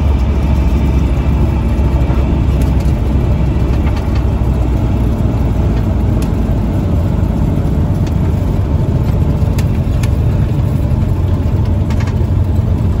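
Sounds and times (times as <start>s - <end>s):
airplane engine and propeller: 0.0s - 13.0s.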